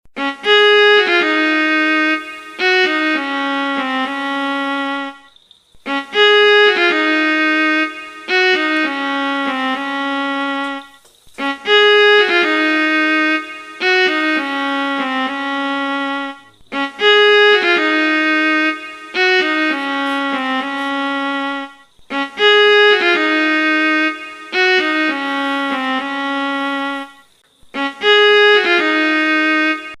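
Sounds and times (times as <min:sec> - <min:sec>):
violin-like melody: 0:00.2 - 0:30.0.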